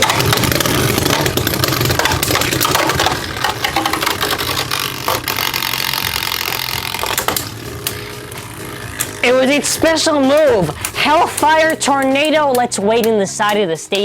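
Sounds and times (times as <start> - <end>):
sharp clicking hits: 0.0 - 14.0
spinning tops whirring and grinding: 0.0 - 14.0.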